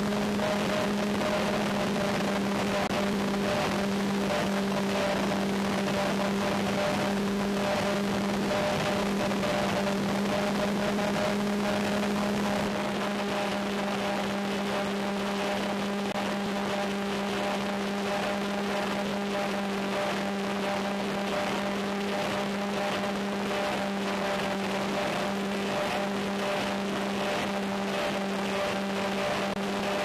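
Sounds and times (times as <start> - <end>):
electric motors and propellers droning: 0.0 - 30.0.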